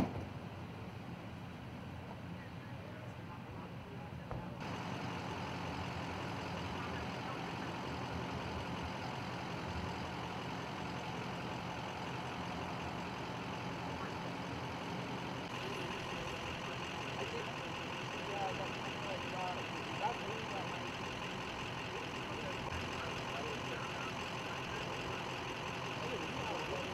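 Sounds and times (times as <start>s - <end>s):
large vehicle engine idling: 0.0s - 26.9s.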